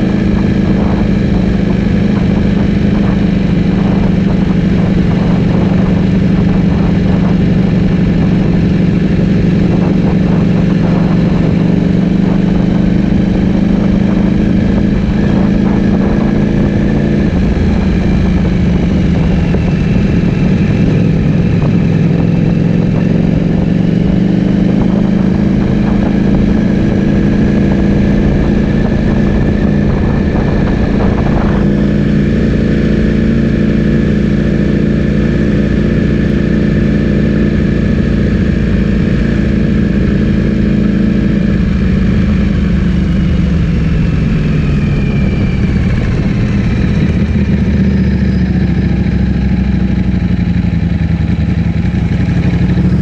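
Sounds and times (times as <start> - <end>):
motorcycle engine running steadily: 0.0 - 53.0.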